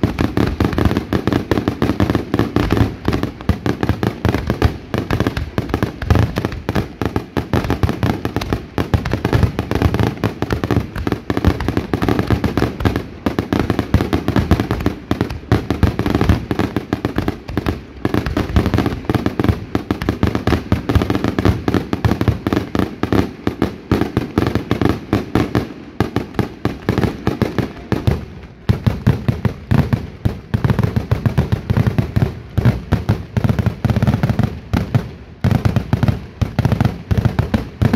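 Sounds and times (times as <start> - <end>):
fireworks bangs and cracks: 0.0 - 37.9.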